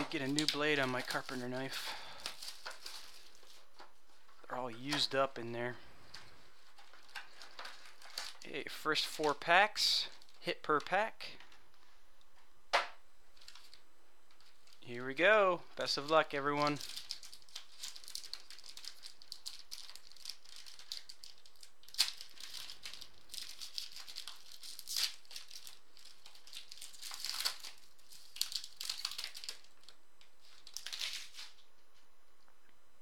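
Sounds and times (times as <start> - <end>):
foil wrapper crinkling: 0.0 - 11.4, 13.3 - 14.9, 15.8 - 32.0.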